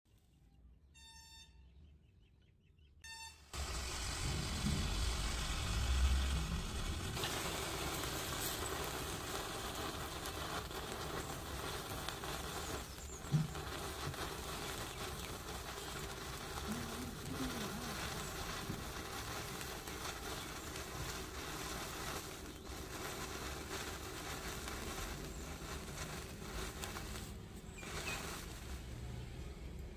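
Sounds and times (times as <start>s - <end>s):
sparklers fizzing and crackling: 3.5s - 29.9s.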